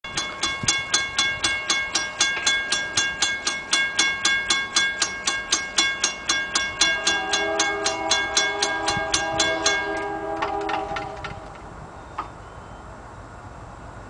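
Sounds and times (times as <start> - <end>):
railroad crossing bell ringing: 0.0 - 12.7.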